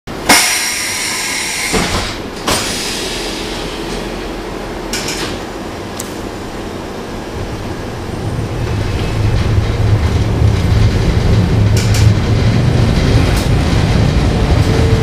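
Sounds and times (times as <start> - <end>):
tram rumbling: 0.1 - 15.0.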